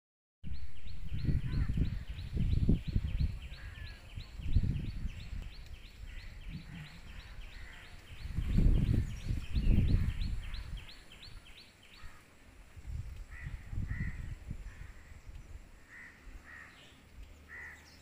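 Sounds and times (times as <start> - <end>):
wind buffeting microphone: 0.4 - 17.5.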